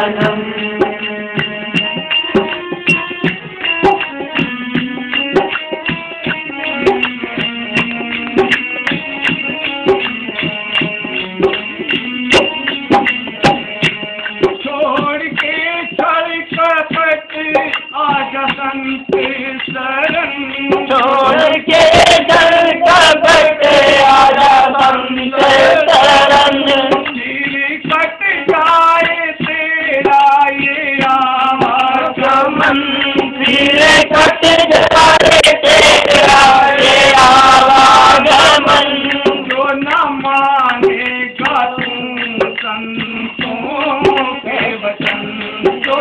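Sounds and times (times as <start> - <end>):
hand drum beat: 0.0 - 46.0
men singing devotional song: 0.0 - 46.0.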